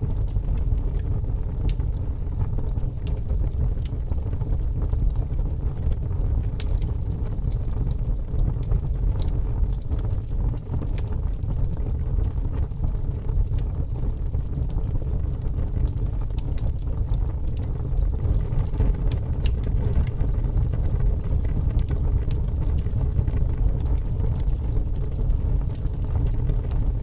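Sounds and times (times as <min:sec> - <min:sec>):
fire burning and crackling: 0:00.0 - 0:27.0.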